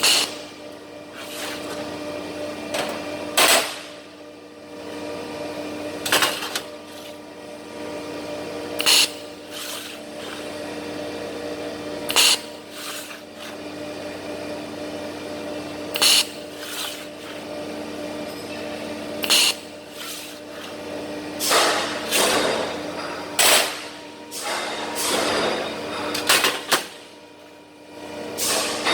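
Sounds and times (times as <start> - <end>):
welding machine hum: 0.0 - 28.9.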